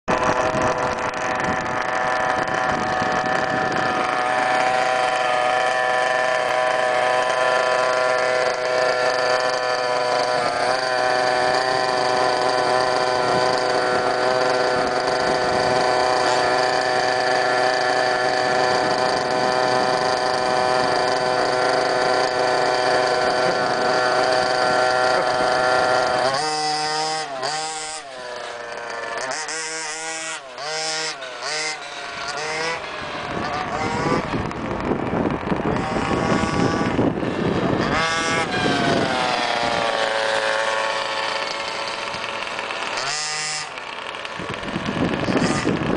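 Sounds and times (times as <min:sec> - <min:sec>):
engine revving: 0:00.0 - 0:45.9
small two-stroke engines buzzing: 0:00.0 - 0:45.9.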